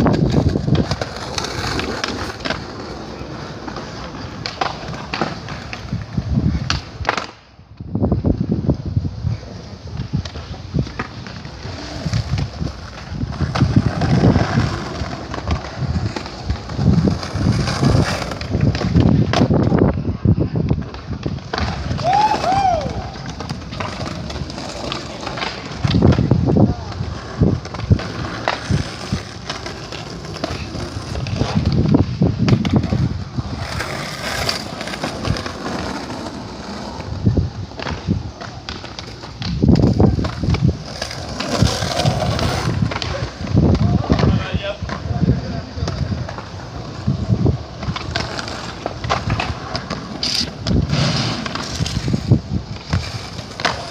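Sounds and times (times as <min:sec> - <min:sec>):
skateboards clacking and landing: 0:00.0 - 0:53.9
skateboards rolling on concrete: 0:00.0 - 0:53.9.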